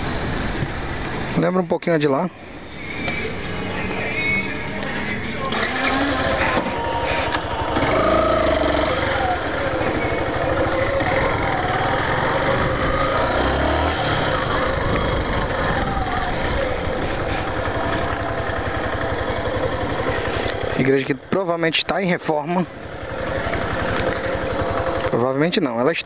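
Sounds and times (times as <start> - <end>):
motorcycle engine running: 3.1 - 26.0.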